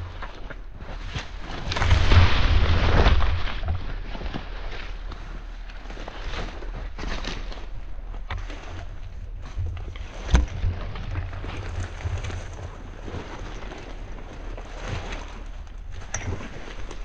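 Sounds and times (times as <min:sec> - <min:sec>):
rustling against microphone: 0:00.0 - 0:17.0.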